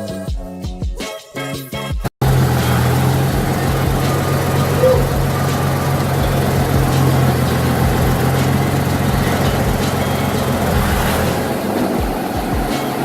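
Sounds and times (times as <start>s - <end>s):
vehicle engine idling: 2.2s - 13.0s.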